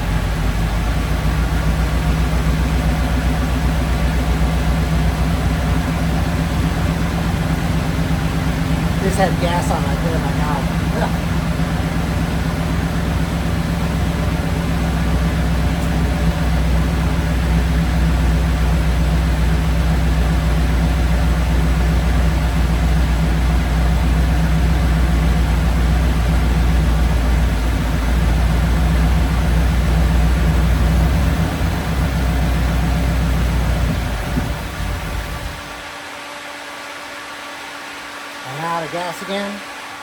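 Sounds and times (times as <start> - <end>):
car engine idling and faltering: 0.0 - 36.5.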